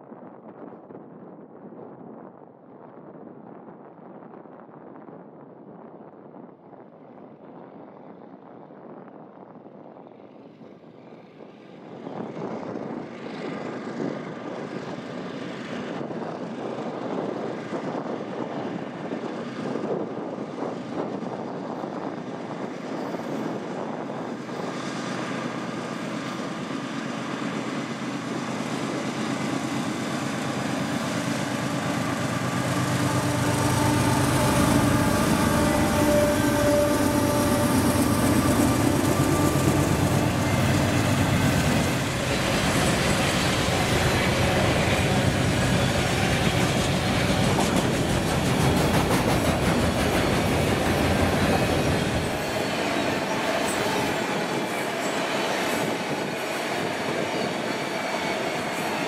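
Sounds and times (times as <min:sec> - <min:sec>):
diesel locomotives approaching: 0:10.1 - 0:59.0.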